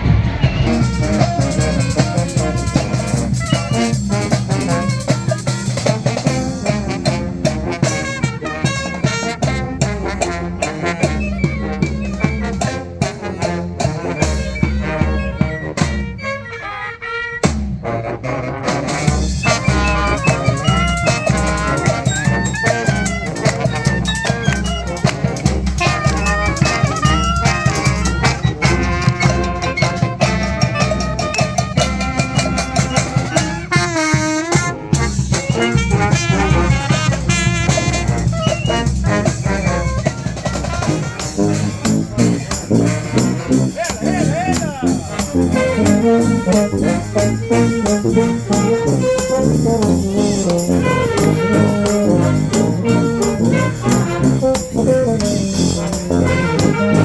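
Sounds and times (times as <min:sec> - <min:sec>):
street brass band playing: 0:00.0 - 0:57.0.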